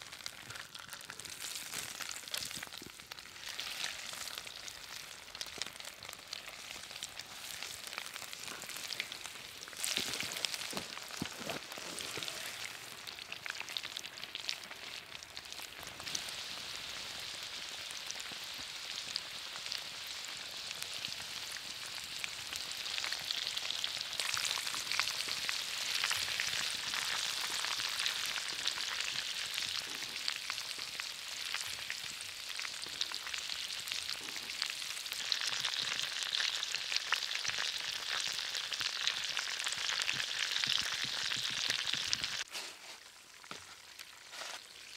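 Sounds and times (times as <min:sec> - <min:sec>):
frying oil sizzling and popping: 0:00.0 - 0:44.9.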